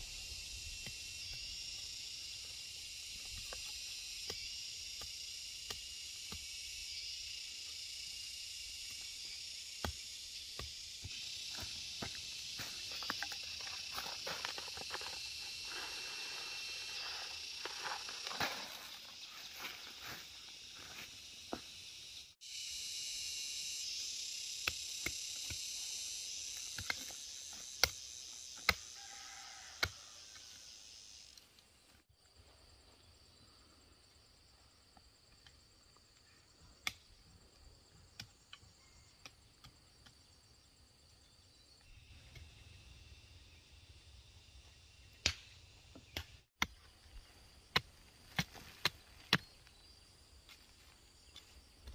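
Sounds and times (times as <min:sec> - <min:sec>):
insects calling in shrill chorus: 0:00.0 - 0:51.9.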